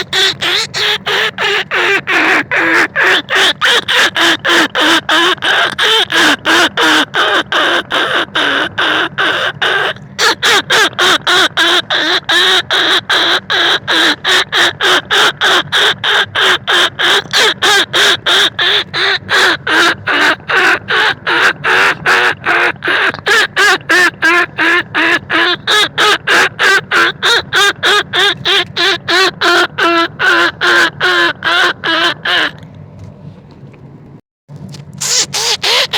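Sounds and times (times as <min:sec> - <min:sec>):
squeaky rat calls: 0:00.0 - 0:32.6, 0:35.0 - 0:35.9.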